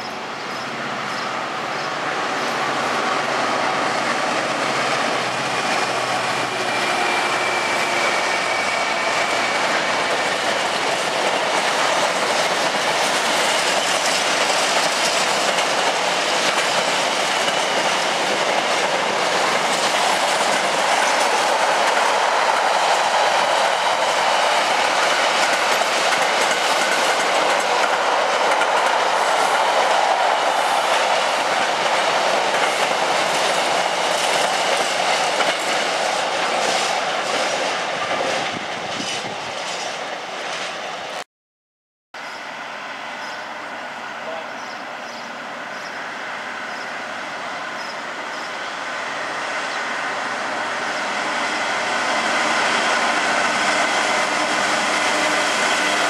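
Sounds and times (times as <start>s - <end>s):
train wheels running on rails: 0.0s - 41.2s, 42.2s - 56.0s.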